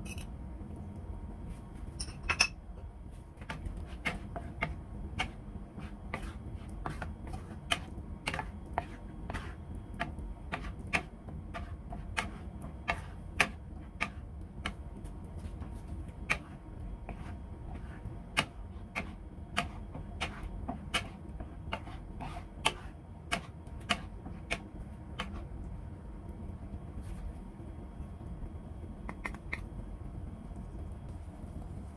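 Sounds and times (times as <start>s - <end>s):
low steady hum: 0.0s - 31.9s.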